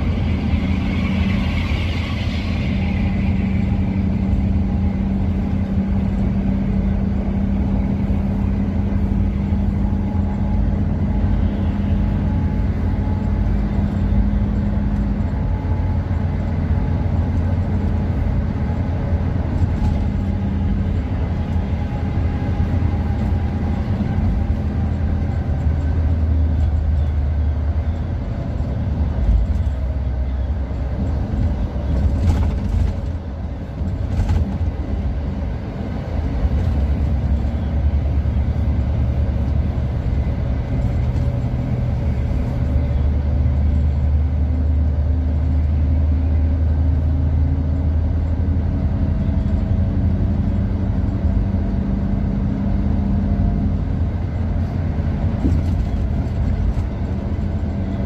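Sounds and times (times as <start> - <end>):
bus engine drone: 0.0 - 58.0
road rumble: 0.0 - 58.0.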